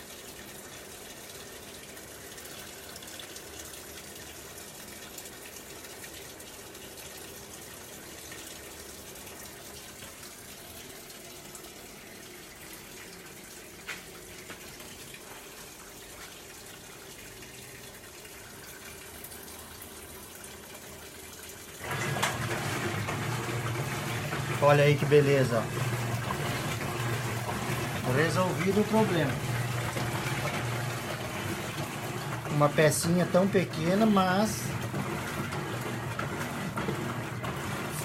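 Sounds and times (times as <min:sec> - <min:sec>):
washing machine running: 0:00.0 - 0:38.0
water moving in tub: 0:00.0 - 0:38.0.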